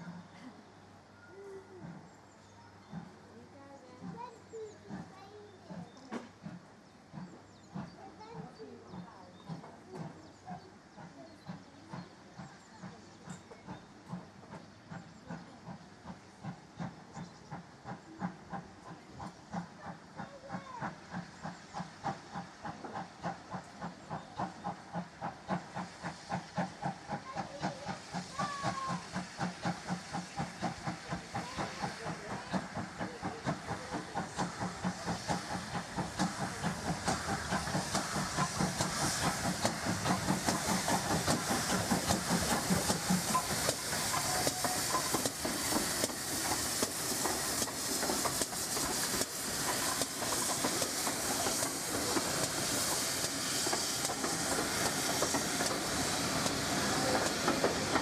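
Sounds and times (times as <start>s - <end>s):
steam hissing: 0.0s - 3.3s, 4.0s - 58.0s
steam locomotive chuffing: 0.0s - 58.0s.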